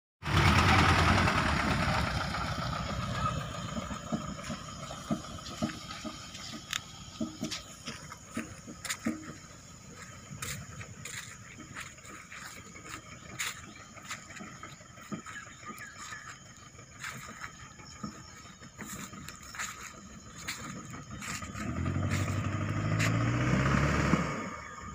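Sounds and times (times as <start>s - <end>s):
truck engine driving away: 0.2s - 24.9s.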